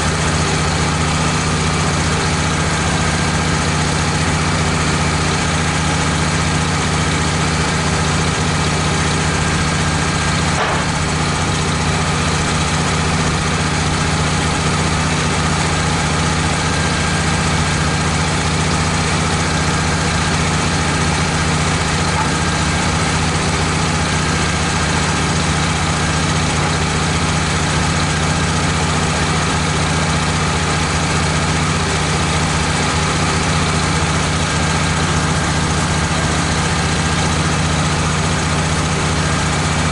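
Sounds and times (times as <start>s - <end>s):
bandsaw mill running: 0.0s - 39.9s.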